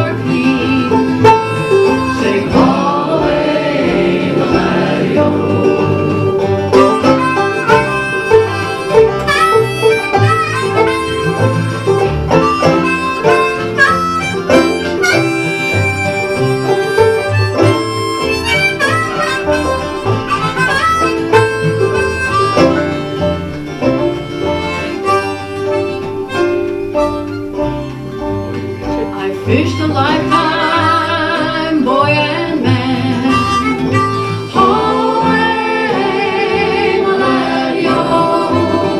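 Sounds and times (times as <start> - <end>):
harmonica playing: 0.0 - 38.9
plucked acoustic guitar and banjo: 0.0 - 38.9.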